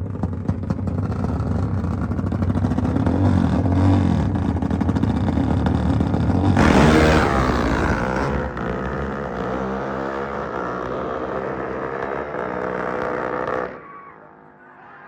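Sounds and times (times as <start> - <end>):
motorcycle engines revving: 0.2 - 14.5.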